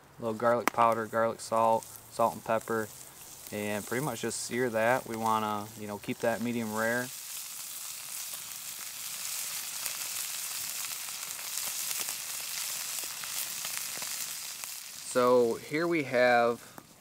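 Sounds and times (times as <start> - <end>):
meat sizzling in a skillet: 0.2 - 17.0.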